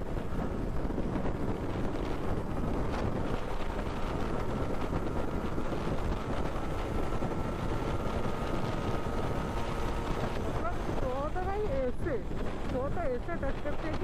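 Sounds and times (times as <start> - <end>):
motorcycle engine cruising: 0.0 - 14.0
wind rushing over microphone: 0.0 - 14.0.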